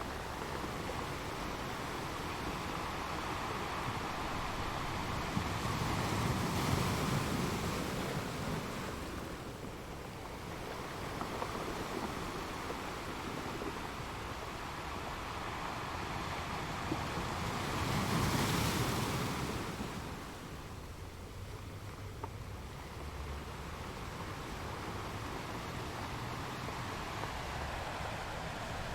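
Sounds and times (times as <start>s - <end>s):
waves breaking against rocks: 0.0s - 28.9s.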